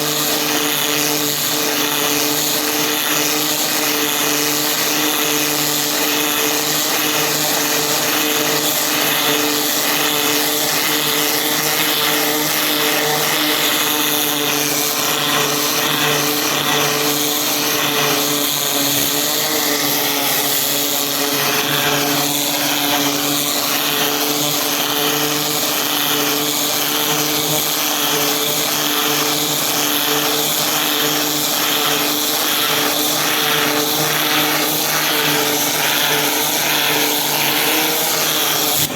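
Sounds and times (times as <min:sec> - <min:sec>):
cleaning machine hum and rushing air: 0:00.0 - 0:38.9.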